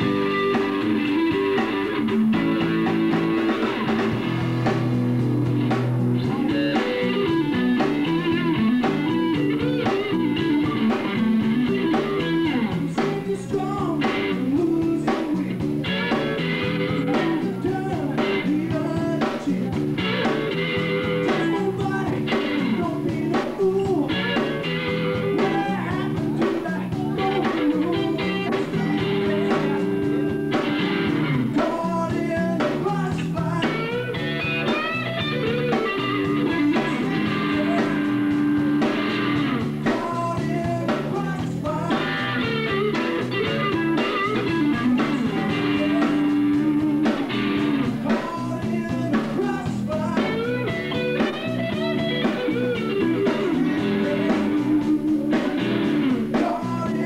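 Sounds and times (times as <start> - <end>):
bass guitar: 0.0 - 57.0
electric guitar: 0.0 - 57.0
person singing lead vocal: 6.2 - 57.0.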